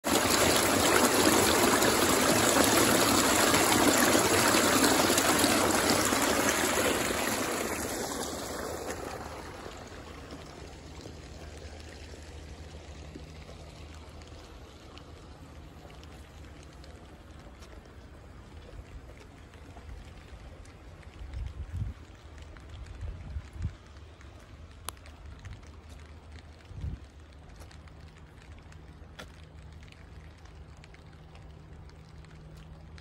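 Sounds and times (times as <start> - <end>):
rainwater rushing through drain grate: 0.0 - 33.0
steady rain: 0.0 - 33.0.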